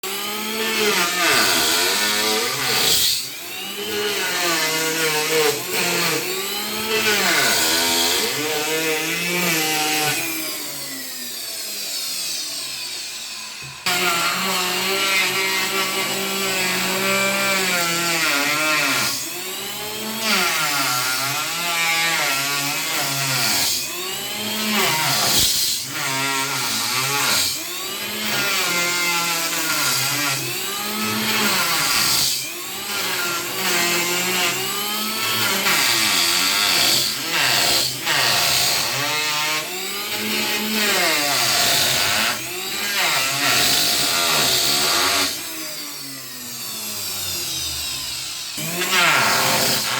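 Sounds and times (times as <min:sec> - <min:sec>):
power planer cutting wood: 0:00.0 - 0:49.9.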